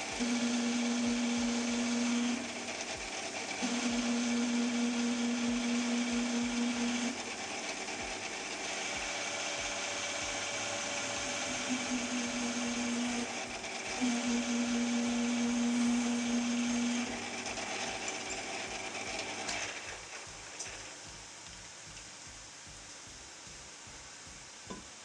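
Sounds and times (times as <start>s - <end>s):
metal lathe running: 0.0s - 21.5s.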